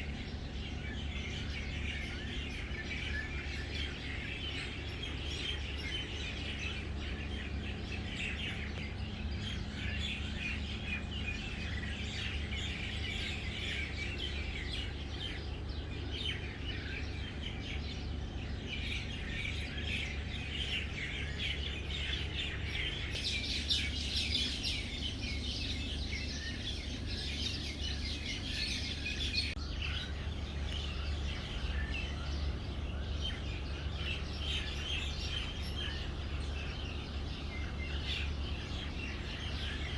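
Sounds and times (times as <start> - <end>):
small birds chirping: 0.0 - 39.9
steady low hum: 0.0 - 39.9.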